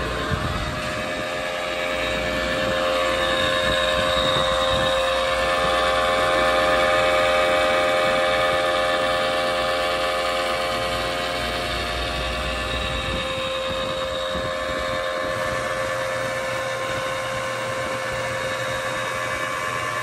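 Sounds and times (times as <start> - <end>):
machine hum: 0.0 - 20.0
steady whining tones: 0.0 - 20.0.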